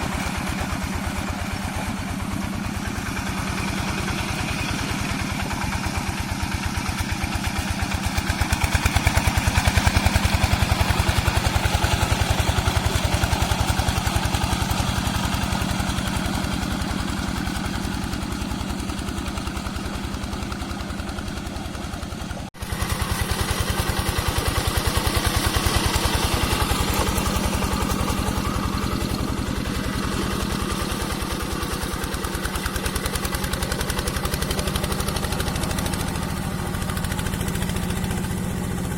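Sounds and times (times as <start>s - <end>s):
diesel engine puttering: 0.0s - 38.9s.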